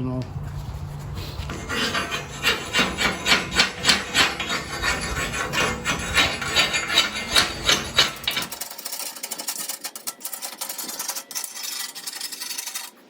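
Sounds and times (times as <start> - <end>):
chisel scraping steel plate: 0.4 - 13.0.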